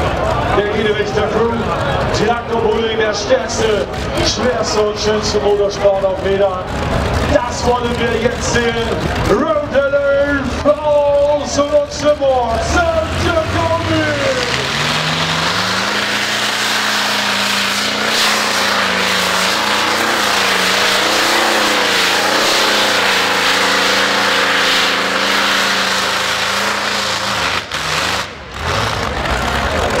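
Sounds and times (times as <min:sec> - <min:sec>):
diesel tractor engine under load: 0:00.0 - 0:30.0.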